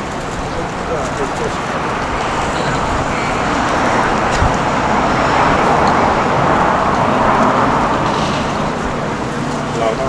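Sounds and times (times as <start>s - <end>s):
road traffic rushing: 0.0s - 10.0s.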